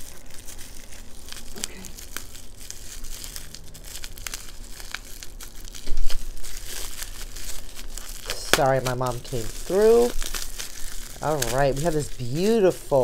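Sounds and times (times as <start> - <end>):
scissors cutting plastic: 0.0 - 12.8
bubble wrap crinkling: 0.0 - 13.0.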